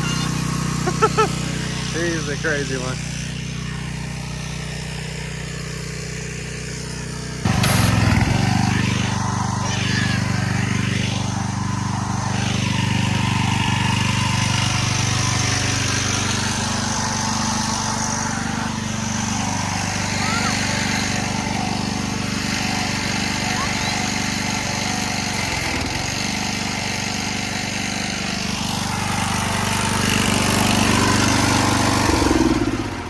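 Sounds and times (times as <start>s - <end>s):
water spray hissing: 0.0s - 2.7s, 7.5s - 33.0s
pressure washer engine running: 0.0s - 33.0s.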